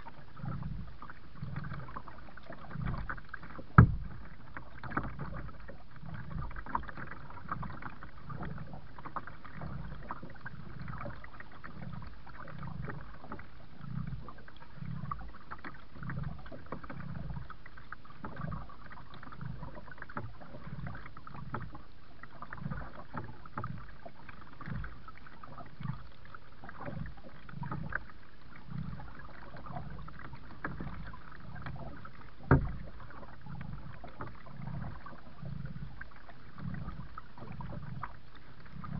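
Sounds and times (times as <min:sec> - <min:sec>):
paddle strokes swishing through water: 0:00.0 - 0:38.9
small water splashes: 0:00.0 - 0:38.9.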